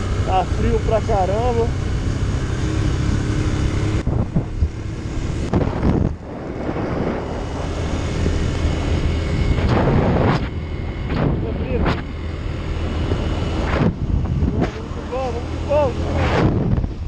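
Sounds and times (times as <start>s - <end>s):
motorcycle engine running: 0.0s - 17.0s
wind buffeting microphone: 1.4s - 17.0s.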